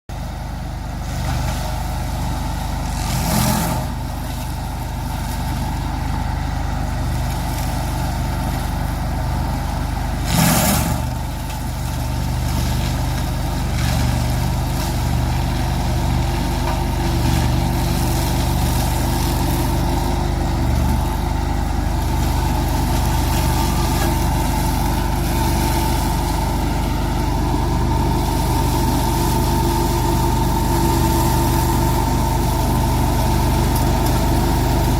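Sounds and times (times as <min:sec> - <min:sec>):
lawn mower engine running: 0:00.1 - 0:34.9.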